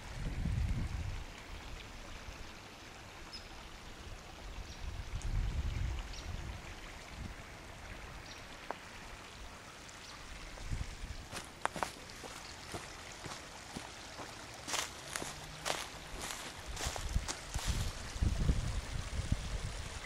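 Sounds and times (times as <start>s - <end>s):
creek flowing: 0.0s - 20.0s.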